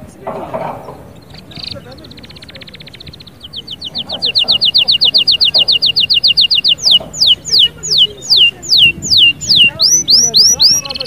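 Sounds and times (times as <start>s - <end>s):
songbird singing trills and whistles: 0.9s - 11.0s.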